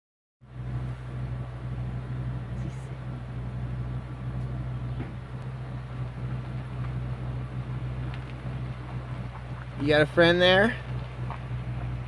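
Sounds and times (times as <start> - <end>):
engine idling: 0.4 - 12.0.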